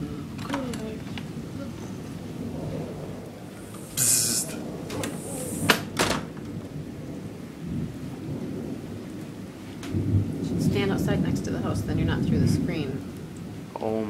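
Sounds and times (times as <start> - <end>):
thunder rumbling: 0.0 - 13.9
steady rain: 0.0 - 14.0
sharp thunder cracks: 2.1 - 13.7.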